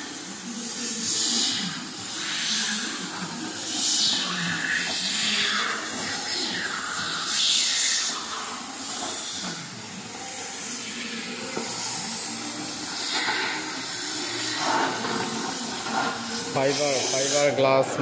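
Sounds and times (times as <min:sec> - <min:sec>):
cutting torch hissing: 0:00.0 - 0:18.0.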